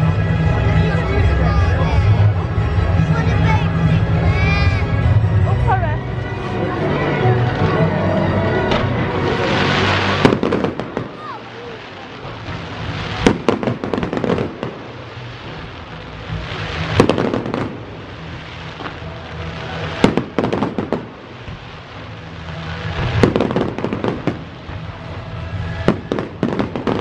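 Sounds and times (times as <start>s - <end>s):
firework crackling: 0.0s - 27.0s.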